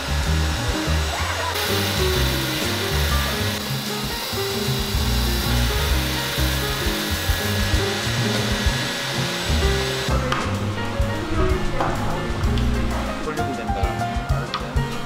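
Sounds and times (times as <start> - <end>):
disc sander sanding wood: 0.0 - 13.6
background music with bass: 0.0 - 15.0.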